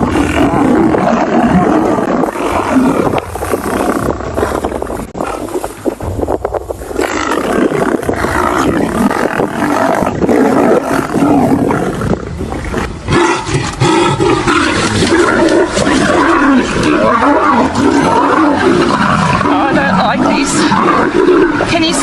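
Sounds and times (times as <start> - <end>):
lions roaring and growling: 0.0 - 22.0.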